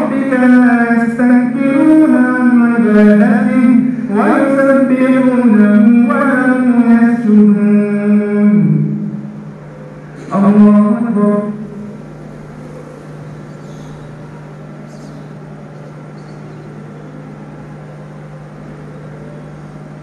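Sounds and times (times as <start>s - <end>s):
low hum of sound system and fans: 0.0s - 20.0s
reverberant chanting over loudspeakers: 0.0s - 20.0s.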